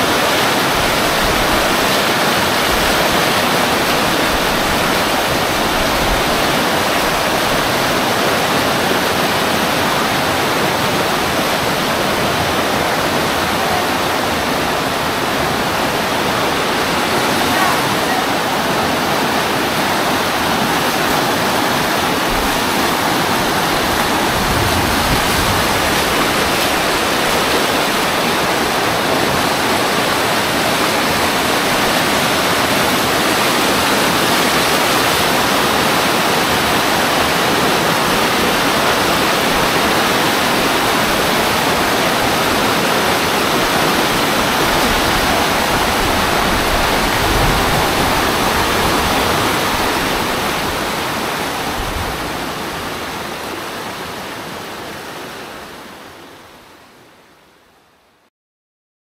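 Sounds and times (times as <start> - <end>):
floodwater rushing: 0.0 - 57.2.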